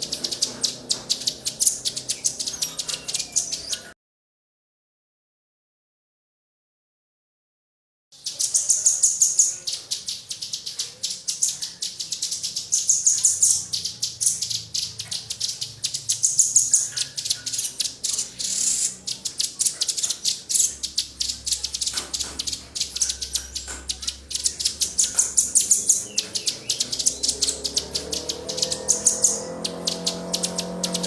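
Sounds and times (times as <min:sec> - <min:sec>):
songbirds chirping: 0:00.0 - 0:04.0, 0:08.2 - 0:31.0.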